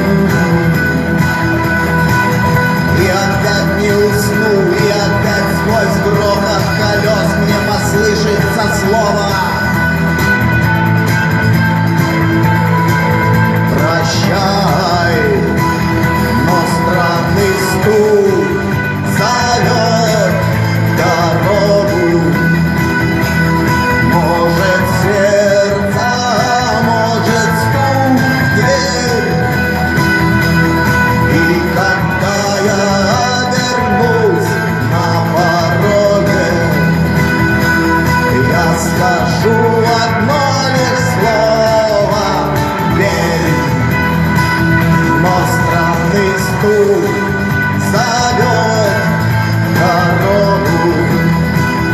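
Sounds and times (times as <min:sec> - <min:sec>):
rock song with singing: 0:00.0 - 0:51.9.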